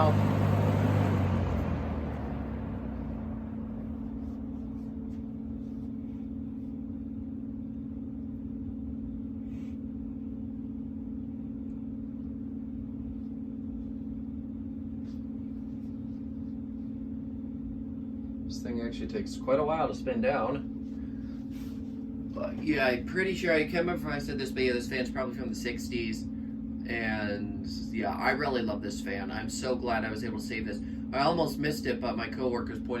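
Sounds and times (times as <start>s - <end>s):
fan air rushing: 0.0s - 33.0s
fan blade low hum: 0.0s - 33.0s.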